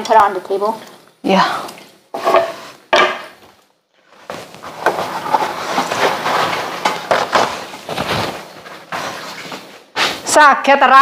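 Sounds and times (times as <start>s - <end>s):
rustling with small clatters: 0.0s - 10.3s.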